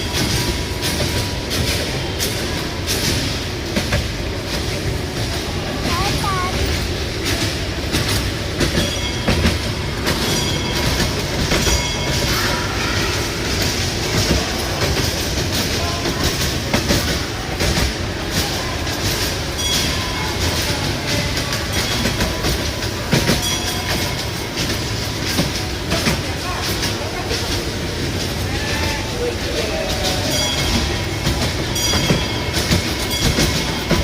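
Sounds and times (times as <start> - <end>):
high squeaks of train wheels: 0.0 - 34.0
train rumbling: 0.0 - 34.0
wheels clattering over rails: 0.0 - 34.0.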